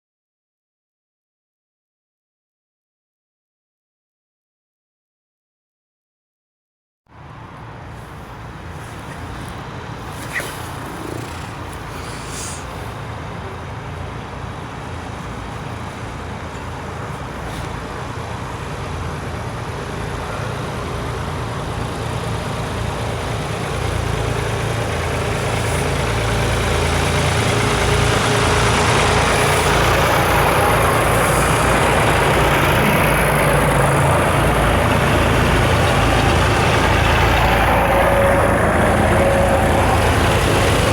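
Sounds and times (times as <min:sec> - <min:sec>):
tyres on road: 0:07.1 - 0:40.9
tractor engines: 0:07.2 - 0:40.9.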